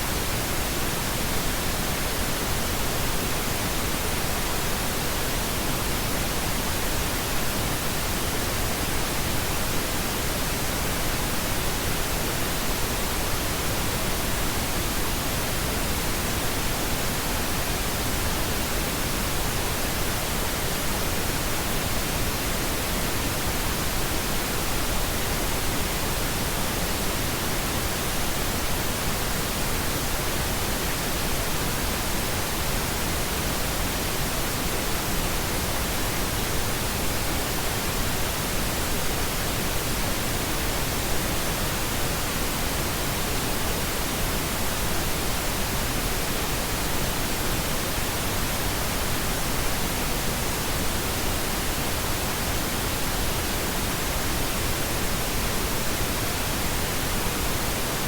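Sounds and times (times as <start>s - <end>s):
steady pink noise hiss: 0.0s - 58.0s.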